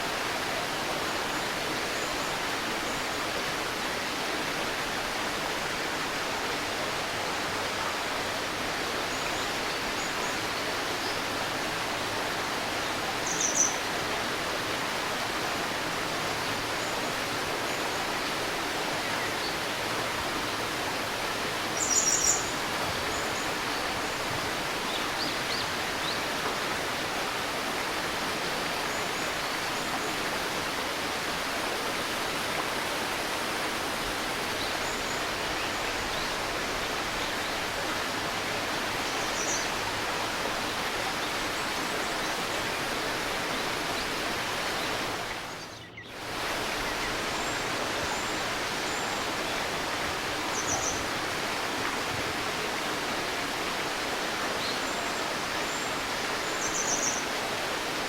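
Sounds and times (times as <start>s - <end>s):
shallow river babbling: 0.0s - 58.0s.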